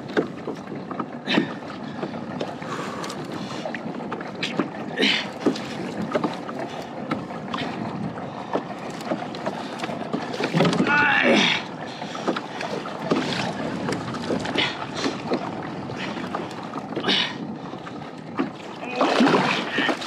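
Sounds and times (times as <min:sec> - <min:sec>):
water slapping against kayak hull: 0:00.0 - 0:20.0.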